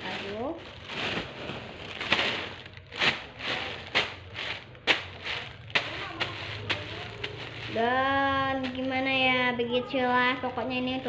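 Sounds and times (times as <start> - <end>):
plastic bag rustling and crinkling: 0.0 - 9.4.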